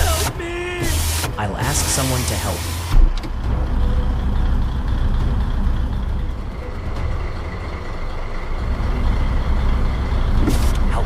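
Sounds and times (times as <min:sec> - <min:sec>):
heavy truck engine running: 0:00.0 - 0:11.0.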